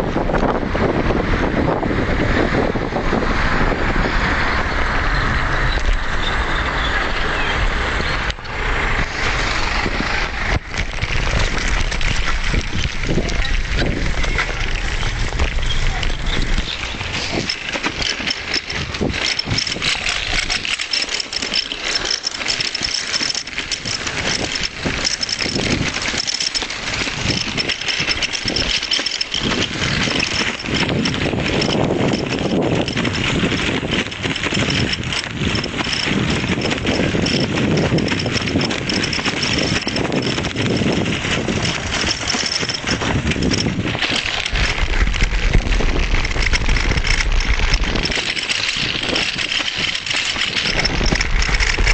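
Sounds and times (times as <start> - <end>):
bicycle rattling and clattering: 0.0 - 51.9
road and traffic noise: 0.0 - 51.9.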